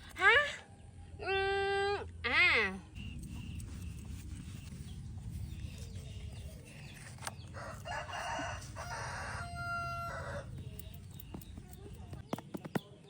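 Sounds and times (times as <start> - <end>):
low steady rumble: 0.0 - 12.2.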